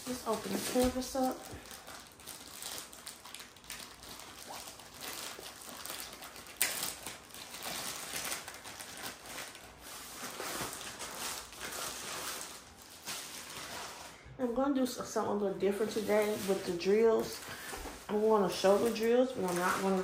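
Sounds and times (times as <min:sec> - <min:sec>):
sharp plastic crackle: 0:00.0 - 0:14.1, 0:15.8 - 0:20.0
plastic wrapping crinkling: 0:00.0 - 0:14.4, 0:15.5 - 0:20.0.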